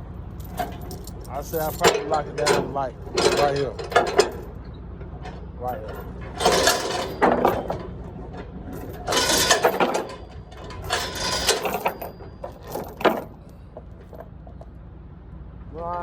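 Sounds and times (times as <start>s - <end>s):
steel chain rattling and clanking: 0.3s - 14.7s.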